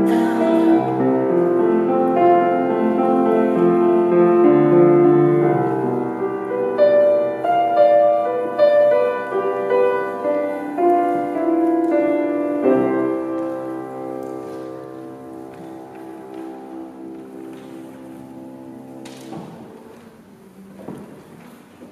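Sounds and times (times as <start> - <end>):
grand piano playing: 0.0 - 21.9.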